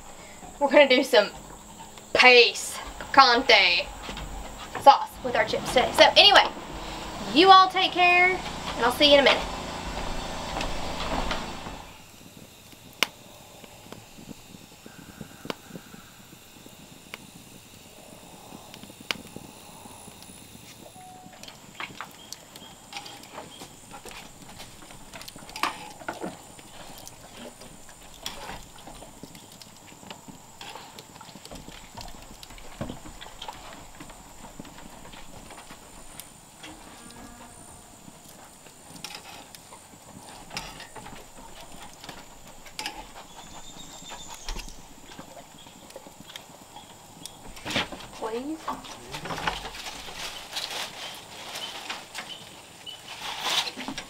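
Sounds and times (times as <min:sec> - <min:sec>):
open fire crackling and popping: 0:00.0 - 0:54.0.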